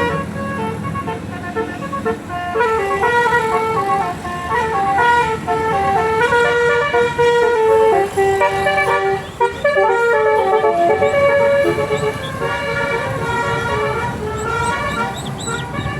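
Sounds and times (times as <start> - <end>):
musical air horn playing a tune: 0.0 - 15.9.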